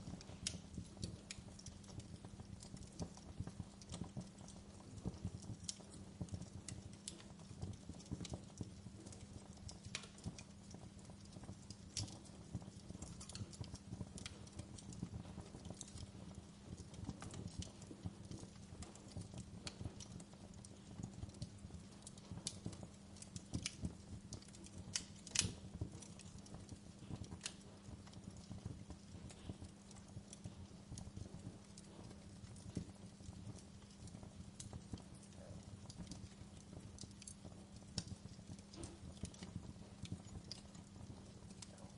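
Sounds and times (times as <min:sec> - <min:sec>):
low steady rumble and hum: 0:00.0 - 0:41.9
wood fire crackling and popping: 0:00.0 - 0:41.9.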